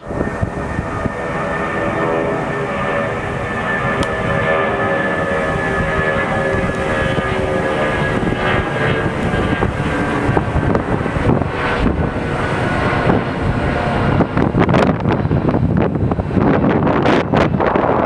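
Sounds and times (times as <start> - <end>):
jet engines whining and rumbling: 0.0 - 18.0
wind buffeting microphone: 0.0 - 18.0.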